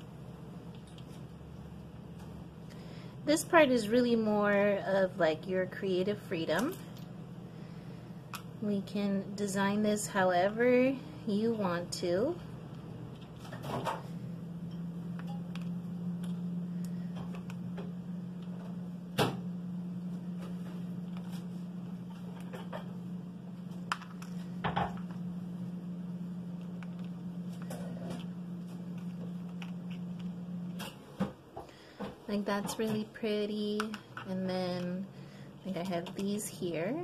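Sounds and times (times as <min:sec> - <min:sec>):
low hum: 0:00.0 - 0:37.0.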